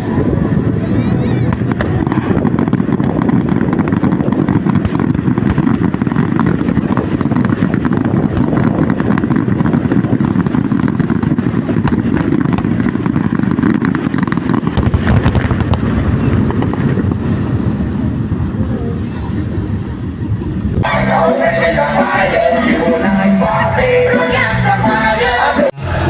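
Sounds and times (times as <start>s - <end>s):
heavy low rumble: 0.0s - 13.5s, 14.6s - 26.0s
fireworks crackling: 0.0s - 26.0s.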